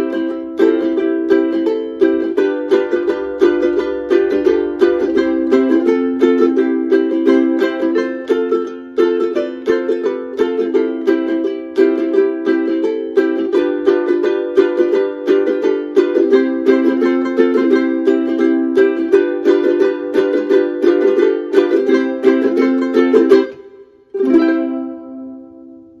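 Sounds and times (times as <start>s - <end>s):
ukulele ensemble playing: 0.0s - 26.0s.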